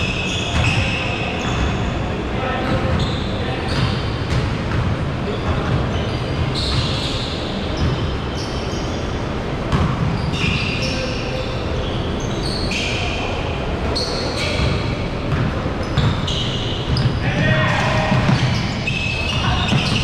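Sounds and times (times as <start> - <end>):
sneakers squeaking: 0.0 - 20.0.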